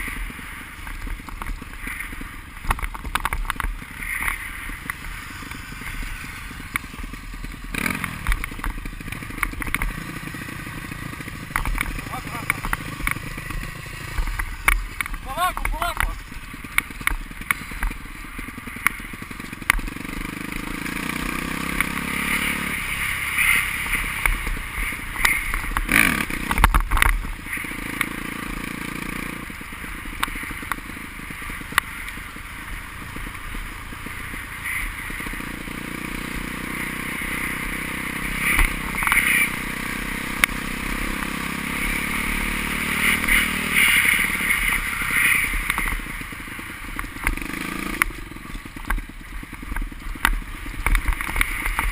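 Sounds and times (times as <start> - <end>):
motocross motorcycles revving: 0.0 - 51.9.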